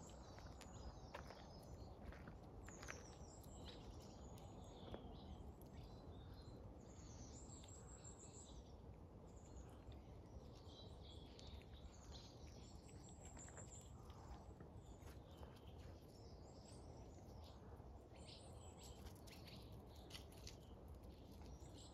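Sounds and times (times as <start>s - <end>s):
songbirds chirping: 0.0s - 21.9s.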